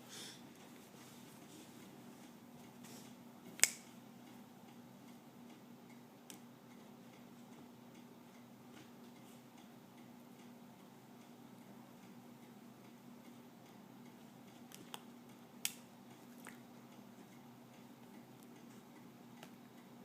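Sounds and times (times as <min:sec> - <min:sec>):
steady low hum: 0:00.0 - 0:20.0
faint clicks and ticks: 0:01.8 - 0:20.0.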